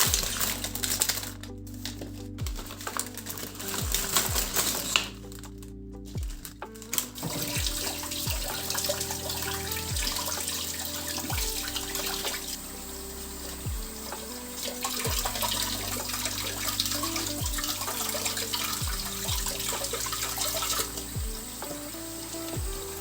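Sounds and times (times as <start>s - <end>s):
water running from a tap: 0.0s - 1.3s, 2.8s - 5.2s, 7.0s - 23.0s
soft background music: 0.0s - 23.0s.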